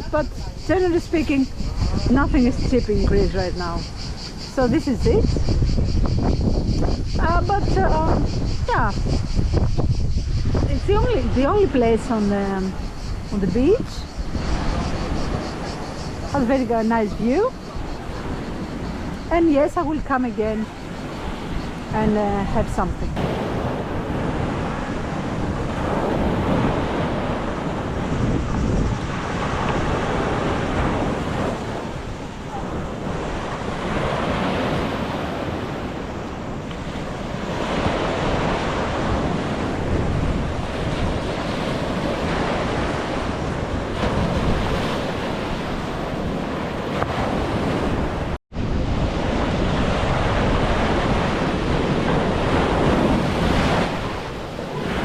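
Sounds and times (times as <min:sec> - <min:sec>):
sea waves washing onto beach: 0:00.0 - 0:55.0
wind buffeting microphone: 0:00.0 - 0:55.0.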